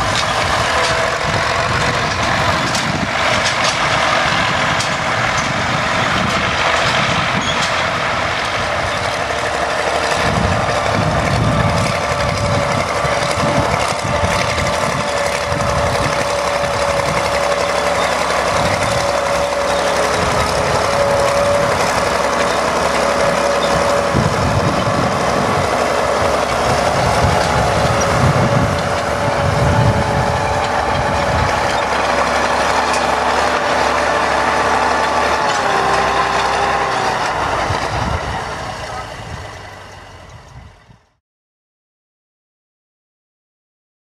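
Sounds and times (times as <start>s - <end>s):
crawler tractor diesel engine: 0.0s - 41.2s.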